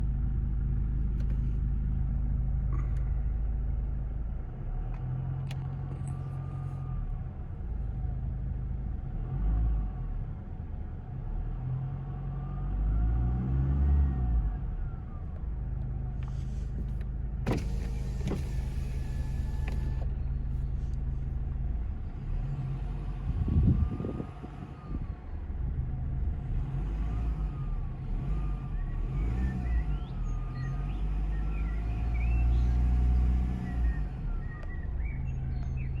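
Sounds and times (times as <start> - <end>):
low diesel engine rumble: 0.0 - 13.0, 14.4 - 36.0.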